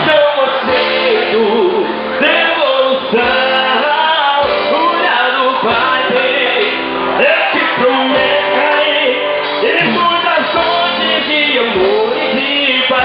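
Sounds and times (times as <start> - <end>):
band playing: 0.0 - 13.0
man singing: 0.0 - 13.0.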